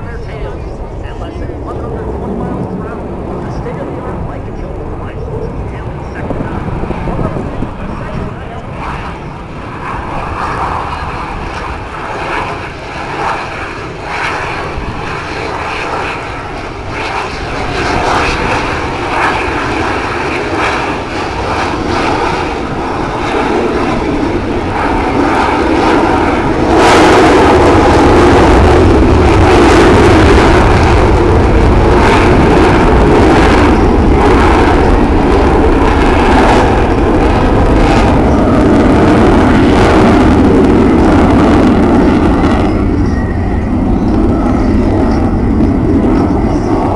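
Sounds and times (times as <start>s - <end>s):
jet engines flying past: 0.0s - 46.9s.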